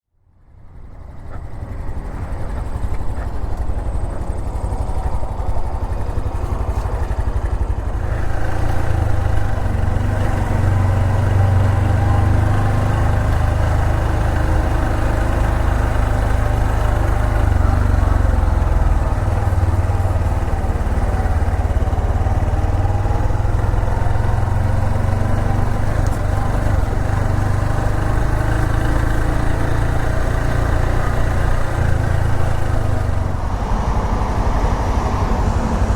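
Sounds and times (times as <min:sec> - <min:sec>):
motorcycle engine running: 0:00.3 - 0:35.9.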